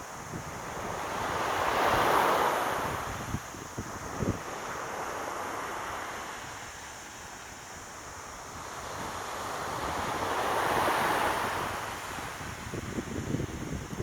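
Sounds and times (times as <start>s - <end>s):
sea waves washing ashore: 0.0s - 14.0s.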